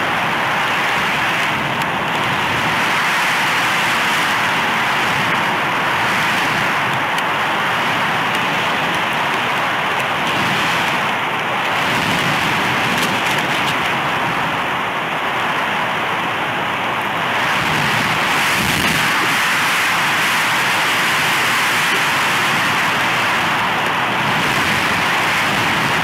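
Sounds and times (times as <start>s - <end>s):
wind rushing on microphone: 0.0s - 26.0s.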